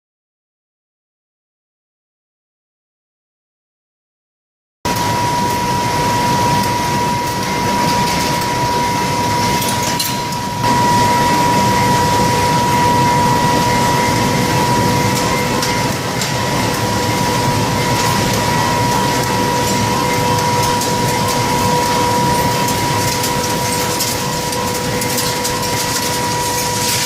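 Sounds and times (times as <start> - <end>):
industrial blower running: 4.9 - 27.0.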